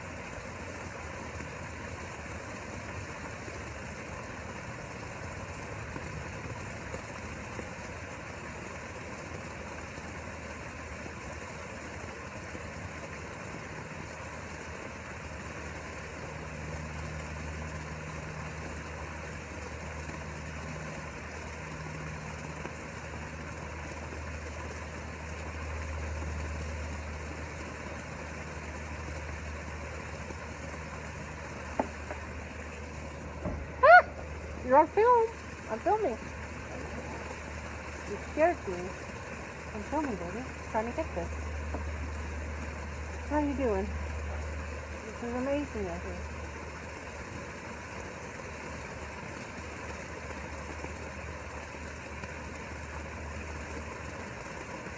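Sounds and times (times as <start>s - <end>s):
constant hiss: 0.0s - 54.9s
low mechanical hum: 0.0s - 54.9s.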